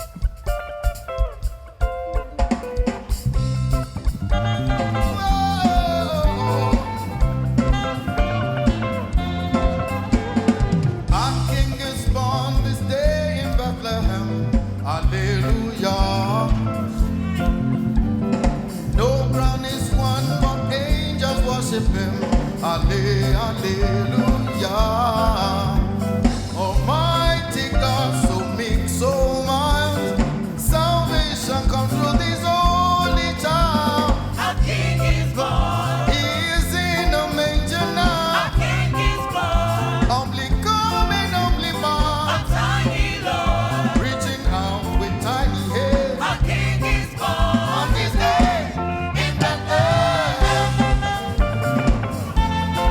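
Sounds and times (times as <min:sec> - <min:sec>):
worship band playing: 0:00.0 - 0:52.9
people singing: 0:04.5 - 0:07.8, 0:11.1 - 0:52.9.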